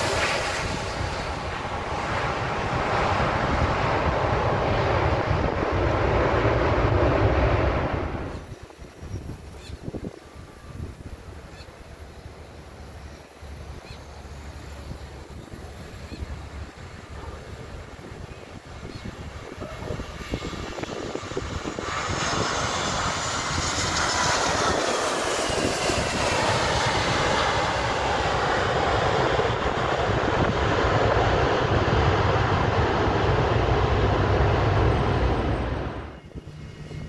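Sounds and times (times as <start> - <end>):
jet engines of landing airliner: 0.0 - 37.0.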